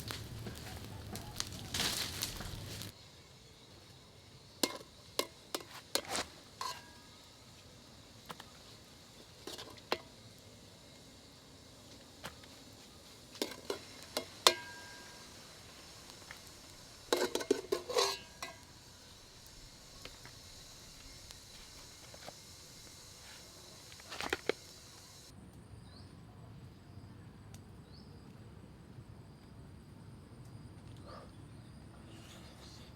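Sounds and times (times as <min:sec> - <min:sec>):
insects chirping: 0:00.0 - 0:26.1, 0:27.8 - 0:32.9
high hum of insects: 0:00.0 - 0:32.9.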